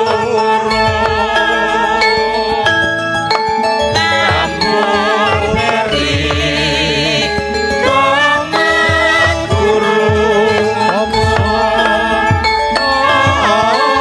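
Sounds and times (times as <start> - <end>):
struck ringing pitched notes: 0.0 - 14.0.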